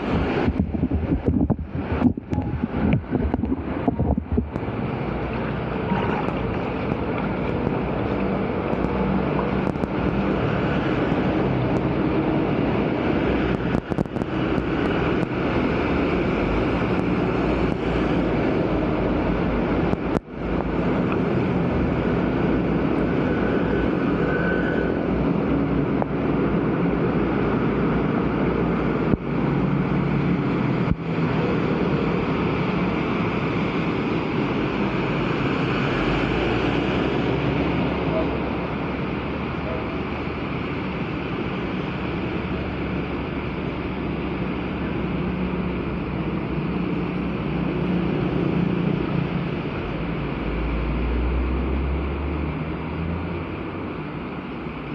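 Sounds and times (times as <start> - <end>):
floodwater rushing along curb: 0.0 - 54.9.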